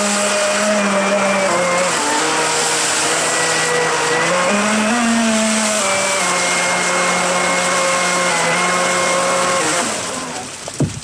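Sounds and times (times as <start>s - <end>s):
electric motor whine: 0.0s - 10.6s
water churning into froth: 0.0s - 11.0s.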